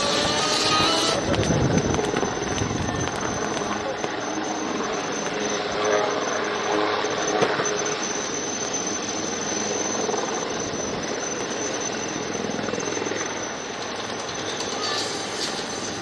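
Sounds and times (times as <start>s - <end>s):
helicopter rotor chop: 0.0s - 16.0s
high turbine whine: 0.0s - 16.0s.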